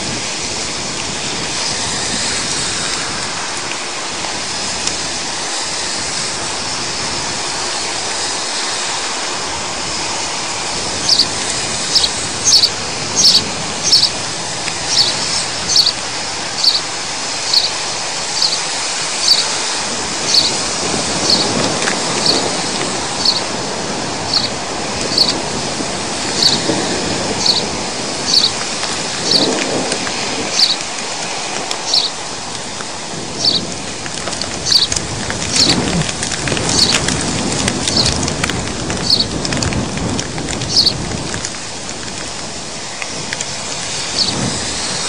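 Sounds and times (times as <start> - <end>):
heavy rain and hail: 0.0 - 45.0.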